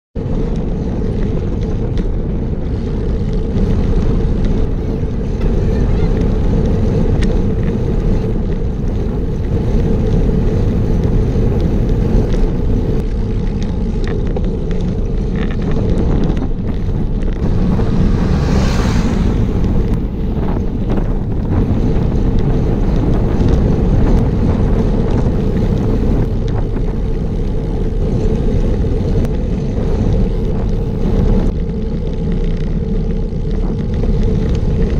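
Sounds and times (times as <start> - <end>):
wind buffeting microphone: 0.2 - 34.9.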